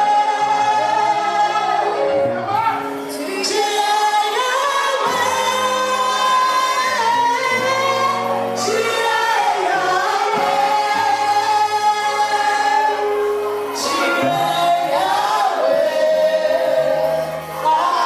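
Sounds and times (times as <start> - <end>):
bass accompaniment: 0.0 - 18.0
gospel singing: 0.0 - 18.0.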